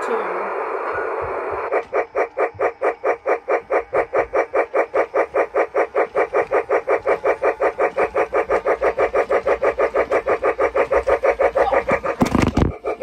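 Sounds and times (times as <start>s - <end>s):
toy steam chuffs through speaker: 0.0s - 13.0s.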